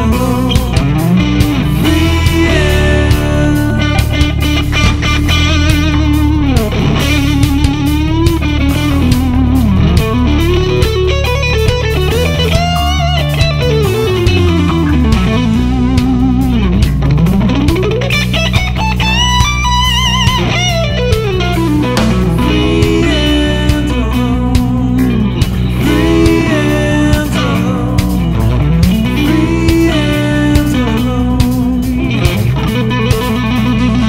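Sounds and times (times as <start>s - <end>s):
bass: 0.0s - 34.0s
electric guitar lead: 0.0s - 34.0s
steady drum beat: 0.0s - 34.0s.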